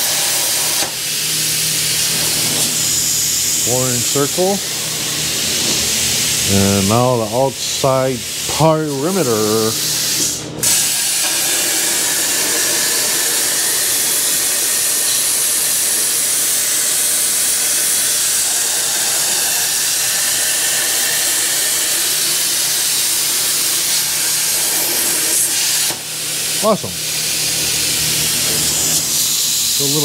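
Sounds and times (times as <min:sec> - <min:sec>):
plasma cutter hissing: 0:00.0 - 0:30.0.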